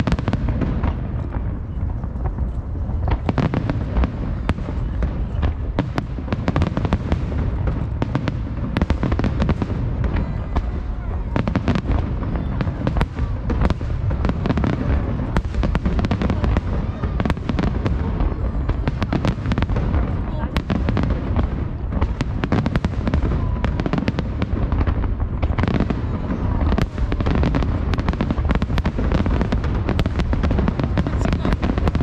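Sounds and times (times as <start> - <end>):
continuous low rumble: 0.0 - 32.0.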